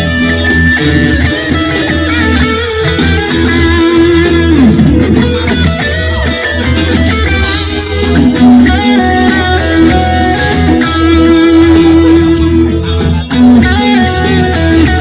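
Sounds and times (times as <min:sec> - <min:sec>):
electric guitar lead melody: 0:00.0 - 0:15.0
low bass backing: 0:00.0 - 0:15.0.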